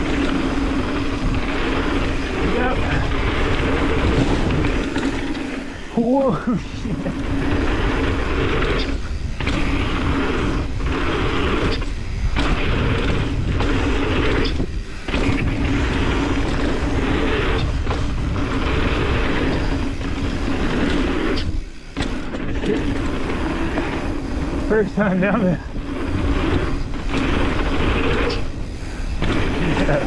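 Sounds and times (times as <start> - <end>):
bike rattling: 0.0 - 30.0
tyre and wind rush: 0.0 - 30.0.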